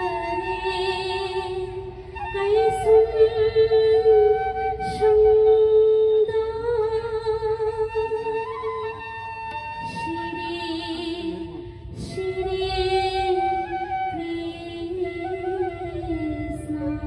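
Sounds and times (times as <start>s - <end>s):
woman singing into microphone: 0.0s - 17.0s.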